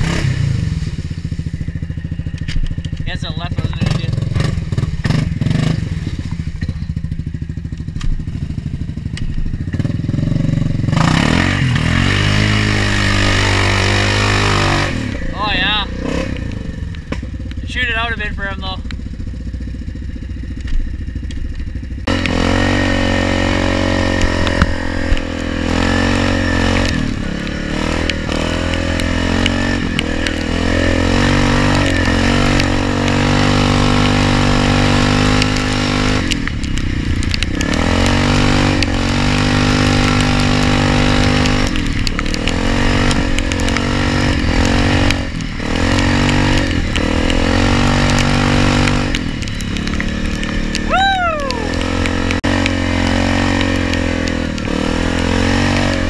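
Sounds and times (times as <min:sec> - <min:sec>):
atv engine under throttle: 0:00.0 - 0:56.0.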